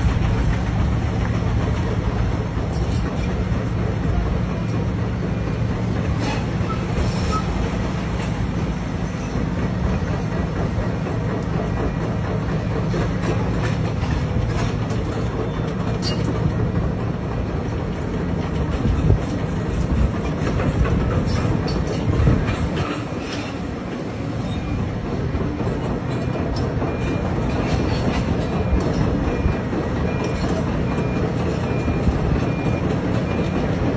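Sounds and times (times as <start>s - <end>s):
heavy machine engine humming: 0.0s - 33.9s.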